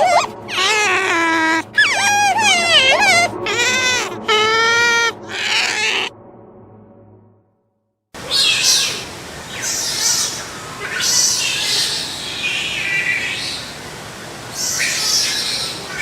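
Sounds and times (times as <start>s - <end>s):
otters calling: 0.0s - 6.1s, 8.2s - 16.0s.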